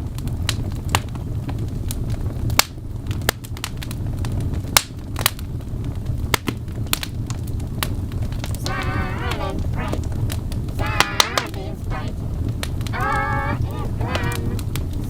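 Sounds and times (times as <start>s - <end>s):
wood fire crackling: 0.5s - 15.0s.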